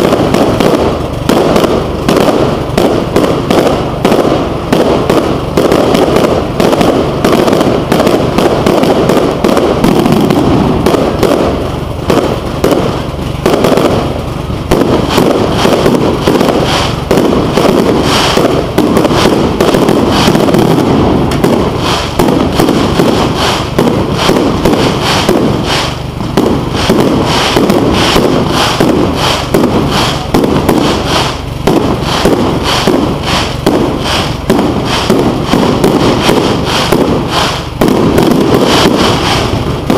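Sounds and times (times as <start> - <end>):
fireworks bursting in rapid bangs: 0.0 - 39.9.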